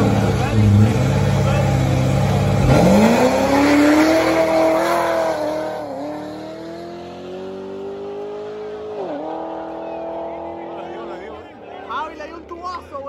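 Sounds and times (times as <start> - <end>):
car engine accelerating hard: 0.0 - 11.2.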